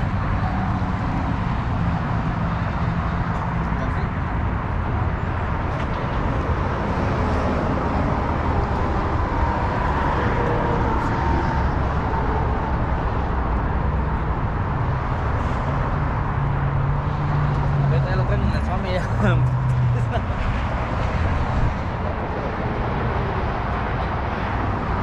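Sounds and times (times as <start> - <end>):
road noise: 0.0 - 25.0
vehicle rumble: 0.0 - 25.0
wind: 0.0 - 25.0.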